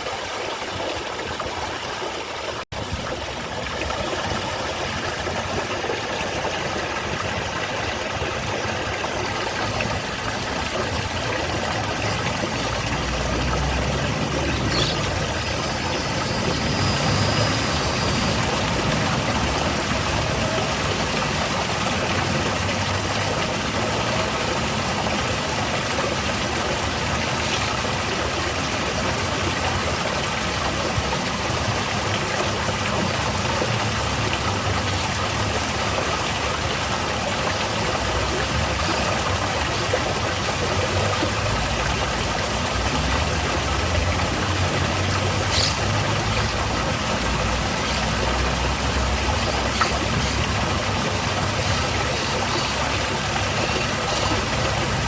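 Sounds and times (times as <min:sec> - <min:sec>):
falling water splashing: 0:00.0 - 0:55.0.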